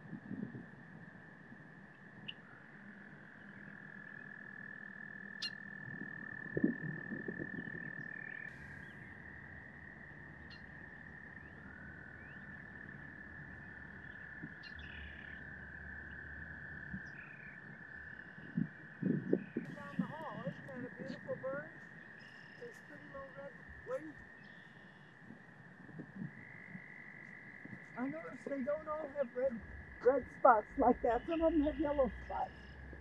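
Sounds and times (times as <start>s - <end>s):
frogs trilling: 0.0s - 33.0s.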